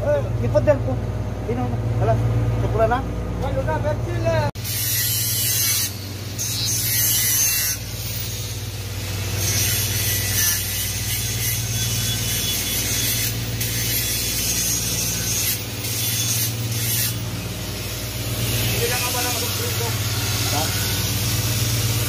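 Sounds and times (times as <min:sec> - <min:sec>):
low machine hum: 0:00.0 - 0:04.6, 0:05.9 - 0:22.0.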